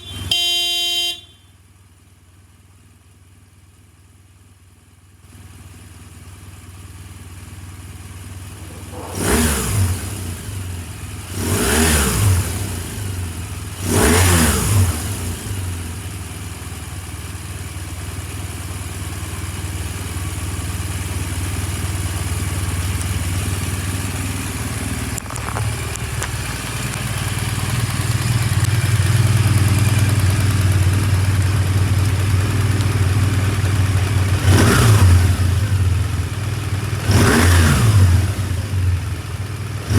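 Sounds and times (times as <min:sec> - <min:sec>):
motorcycle engine revving: 0:05.3 - 0:39.9.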